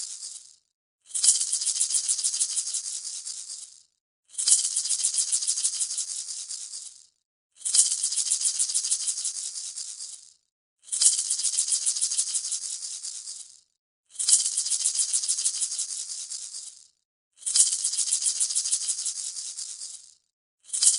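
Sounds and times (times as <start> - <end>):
maracas shaking: 0.0 - 0.6, 1.2 - 13.6, 14.2 - 20.9.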